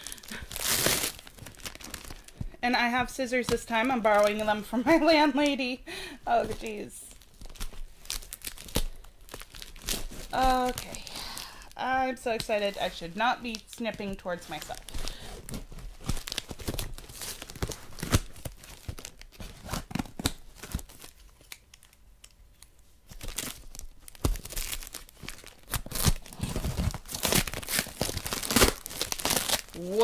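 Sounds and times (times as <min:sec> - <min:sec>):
tape and cardboard crinkling: 0:00.0 - 0:05.7, 0:06.3 - 0:30.0.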